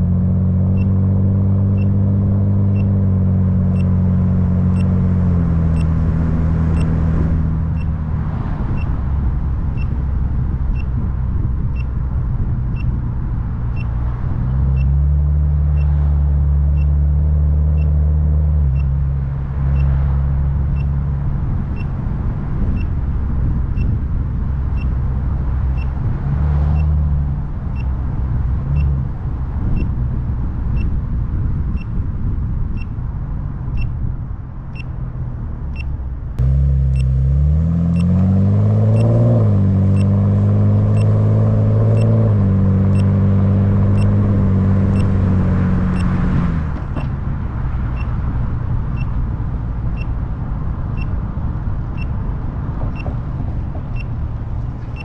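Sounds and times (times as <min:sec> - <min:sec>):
car engine and road drone: 0:00.0 - 0:55.0.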